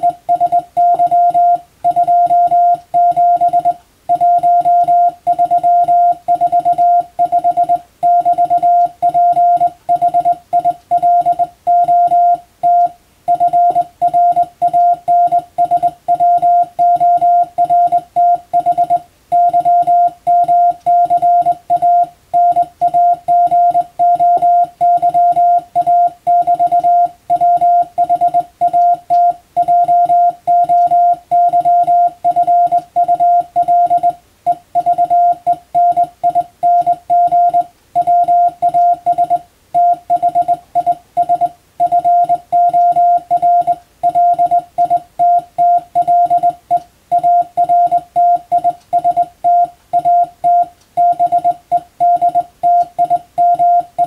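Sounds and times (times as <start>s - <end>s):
morse code beeps: 0.0s - 54.0s.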